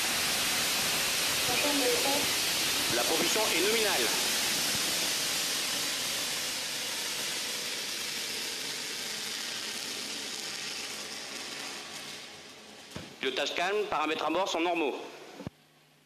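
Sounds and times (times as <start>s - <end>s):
rocket engines hissing: 0.0s - 15.5s.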